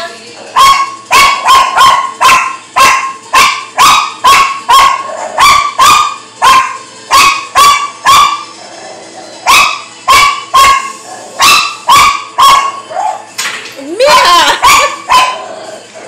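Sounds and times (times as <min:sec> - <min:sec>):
small dog barking: 0:00.6 - 0:08.4, 0:09.5 - 0:13.2, 0:14.2 - 0:15.4.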